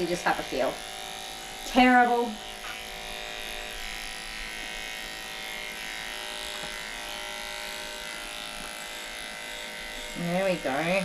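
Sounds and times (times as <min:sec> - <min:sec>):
electric clippers shaving fur: 0:00.0 - 0:11.0.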